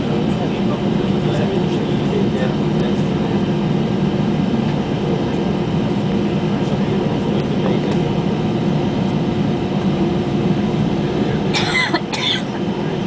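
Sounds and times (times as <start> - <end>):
jet cabin engine hum: 0.0 - 13.0.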